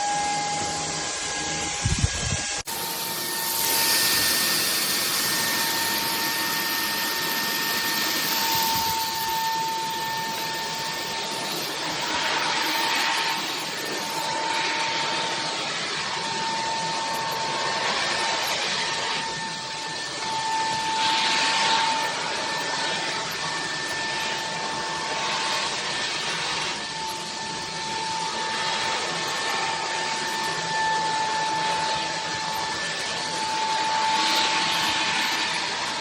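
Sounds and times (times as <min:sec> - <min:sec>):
stick vacuum running: 0:00.0 - 0:36.0.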